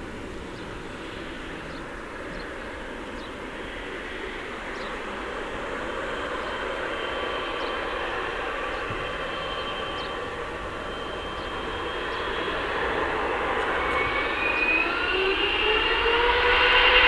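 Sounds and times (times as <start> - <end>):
jet engines rushing and whining: 0.0 - 17.0.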